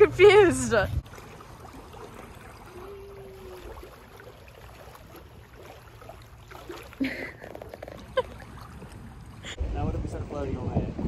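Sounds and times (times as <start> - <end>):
lake water lapping at shore: 0.0 - 10.4
low rumble of wind: 0.0 - 11.0.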